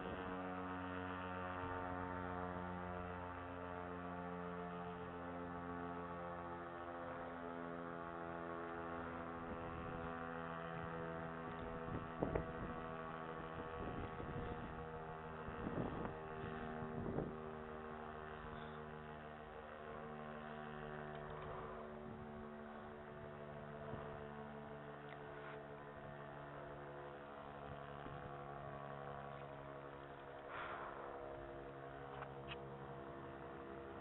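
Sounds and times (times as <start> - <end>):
outdoor warning siren: 0.0 - 34.0.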